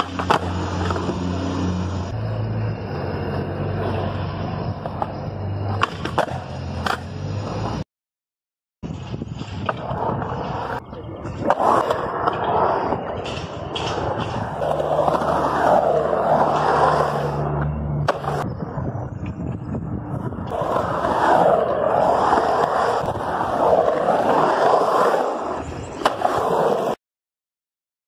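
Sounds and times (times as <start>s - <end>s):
skateboard wheels rolling on concrete: 0.0s - 7.8s, 8.8s - 27.0s.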